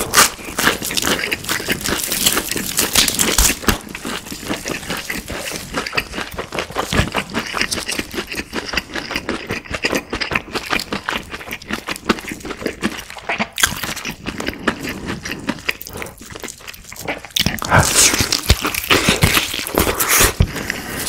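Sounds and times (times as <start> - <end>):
chewing crispy food: 0.0 - 21.0.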